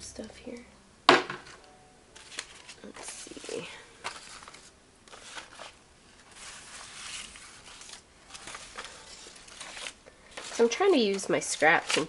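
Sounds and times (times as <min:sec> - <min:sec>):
paper rustling and sliding: 0:02.2 - 0:12.0.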